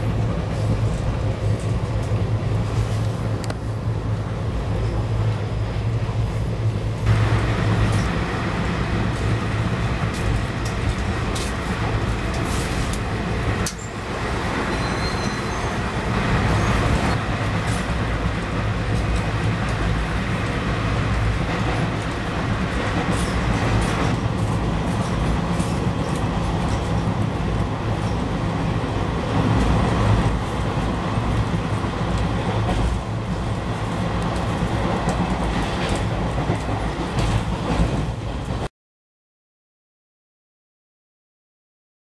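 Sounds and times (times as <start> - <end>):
freight trains passing: 0.0 - 38.7
train coach rumbling: 0.0 - 38.7.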